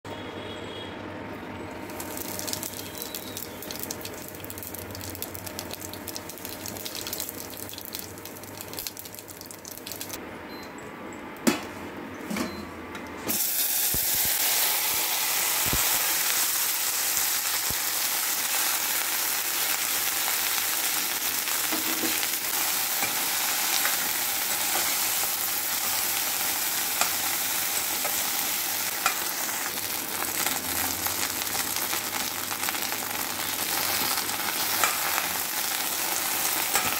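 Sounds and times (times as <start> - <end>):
hot oil sizzling in a pan: 1.8 - 10.2, 13.3 - 36.9.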